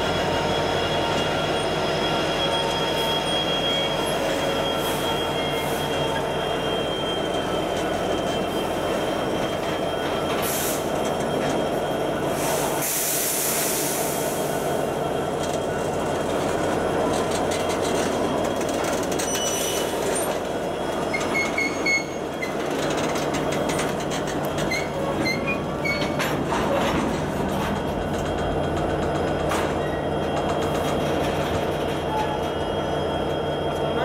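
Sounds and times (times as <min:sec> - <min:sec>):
train wheels rumbling on rail: 0:00.0 - 0:34.0
high-pitched wheel squeals: 0:00.2 - 0:12.8, 0:15.2 - 0:26.3, 0:29.5 - 0:34.0.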